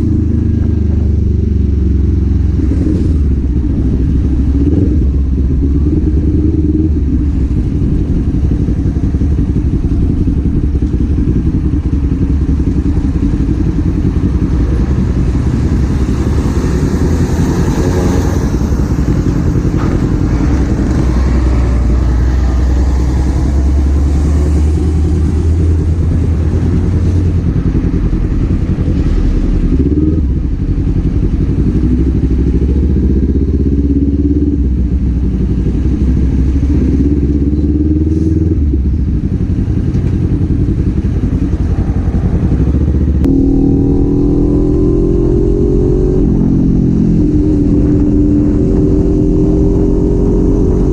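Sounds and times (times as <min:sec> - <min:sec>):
motorcycle engine and exhaust: 0:00.0 - 0:50.9.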